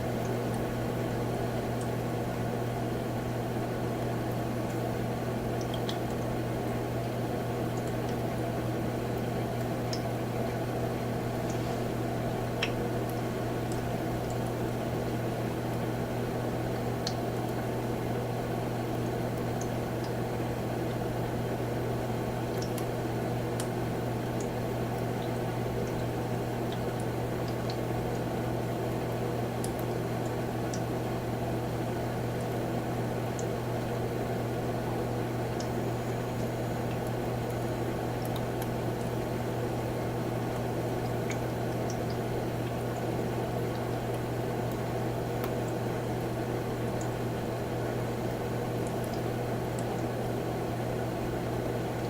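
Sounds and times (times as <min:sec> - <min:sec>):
humidifier hum and noise: 0:00.0 - 0:52.0.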